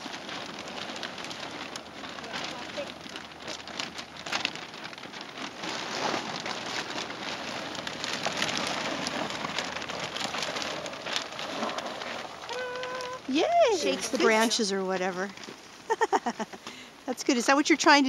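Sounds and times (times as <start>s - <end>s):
plastic sheet rustling and crinkling: 0.0s - 18.0s.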